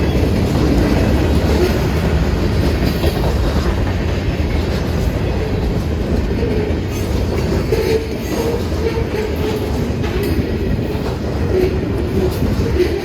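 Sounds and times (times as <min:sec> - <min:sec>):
train rumbling past: 0:00.0 - 0:13.0
wheels clacking over rail joints: 0:00.0 - 0:13.0.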